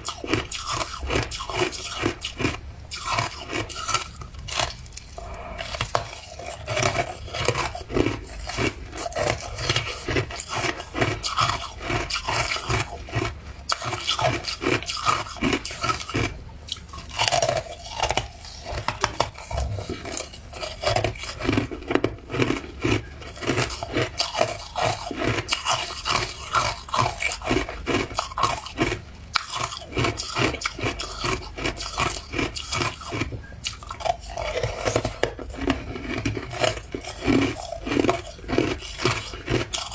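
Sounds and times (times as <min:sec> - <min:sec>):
ice being crunched and chewed: 0:00.0 - 0:39.9.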